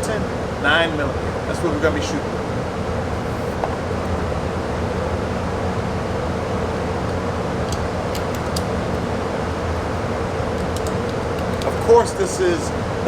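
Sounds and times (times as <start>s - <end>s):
mechanical hum and rumble: 0.0s - 13.0s.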